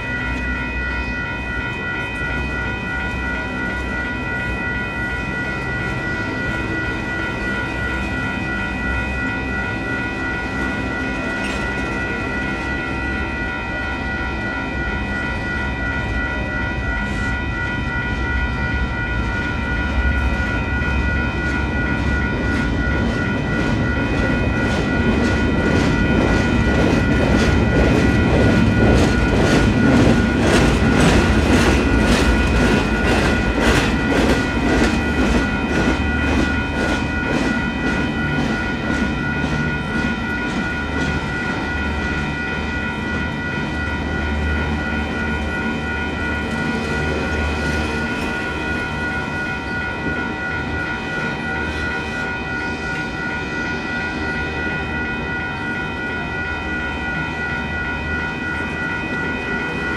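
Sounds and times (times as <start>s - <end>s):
crossing bells ringing: 0.0s - 59.9s
freight train rumble: 0.0s - 59.9s.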